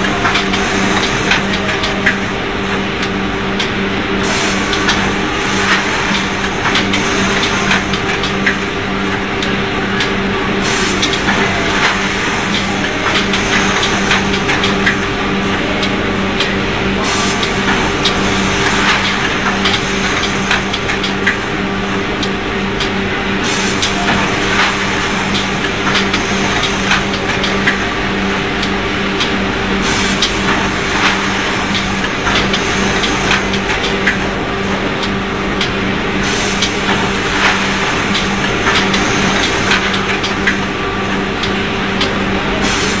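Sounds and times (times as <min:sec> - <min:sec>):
machine clicks and clatter: 0:00.0 - 0:43.0
packaging machine hum: 0:00.0 - 0:43.0.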